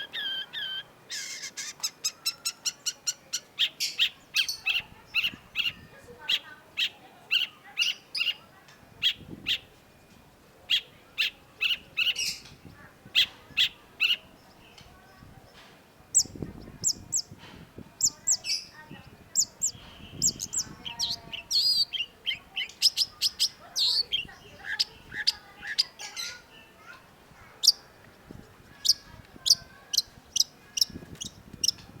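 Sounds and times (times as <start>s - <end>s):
bird chirping and trilling: 0.0s - 9.8s, 10.7s - 32.0s.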